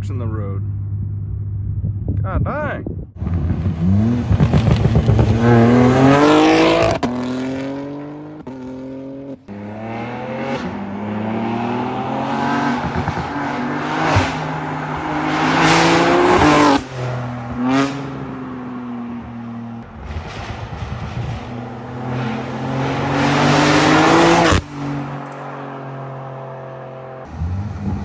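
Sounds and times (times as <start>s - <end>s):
car accelerating hard past: 3.2s - 19.3s, 20.0s - 28.0s.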